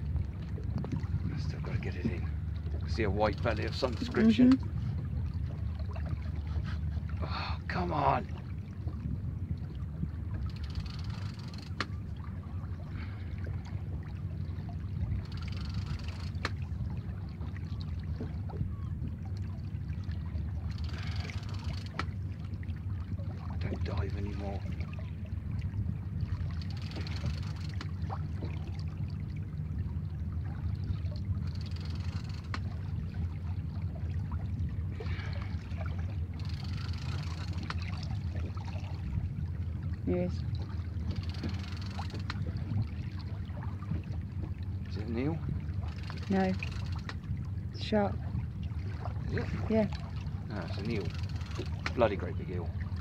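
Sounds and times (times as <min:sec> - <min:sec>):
boat engine low rumble: 0:00.0 - 0:53.0
water sloshing: 0:00.0 - 0:53.0.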